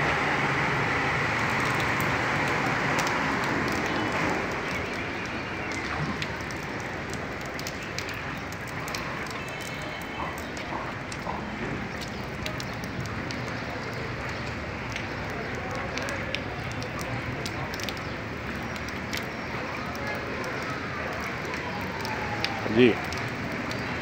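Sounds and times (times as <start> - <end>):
rain hissing on flooded street: 0.0 - 24.0
drops ticking on hard surfaces: 1.4 - 24.0.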